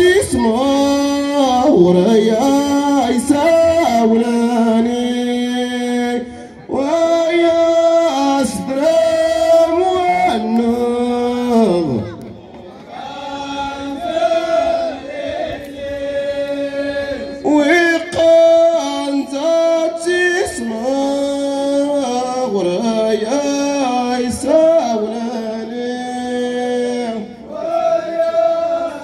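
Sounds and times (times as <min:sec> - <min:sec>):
men's chorus chanting: 0:00.2 - 0:29.0.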